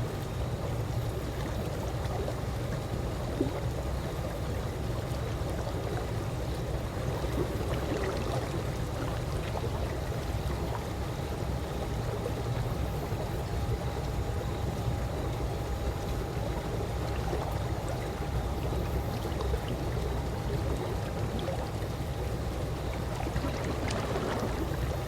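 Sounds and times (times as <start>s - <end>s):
faint steady hum: 0.0s - 25.0s
pool water wash: 0.0s - 25.0s.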